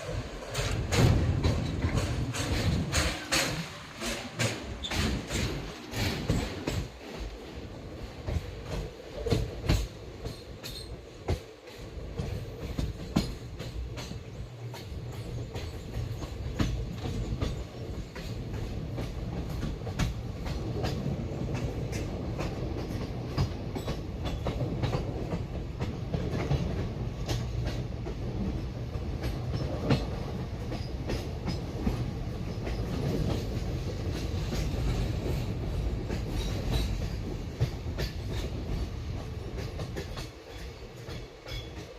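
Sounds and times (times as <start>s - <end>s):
wheels clacking over rail joints: 0.0s - 7.4s, 8.0s - 41.9s
train rumble: 0.0s - 41.9s.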